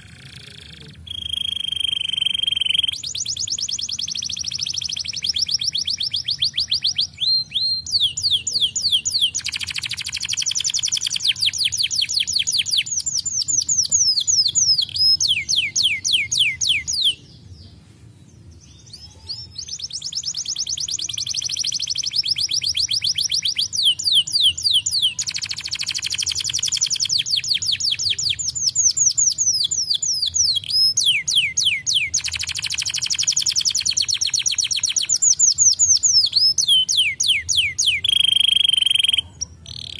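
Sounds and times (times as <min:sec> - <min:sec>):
canary singing in fast trills: 0:00.0 - 0:17.6, 0:18.4 - 0:39.9.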